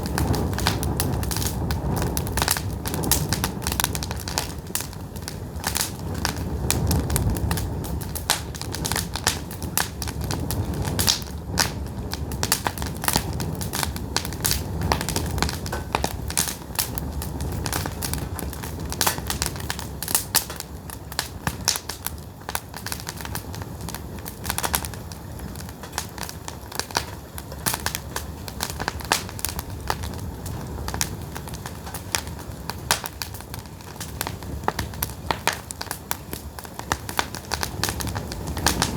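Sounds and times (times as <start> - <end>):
firewood popping and crackling: 0.0 - 38.9
low rumble of flames: 0.0 - 38.9.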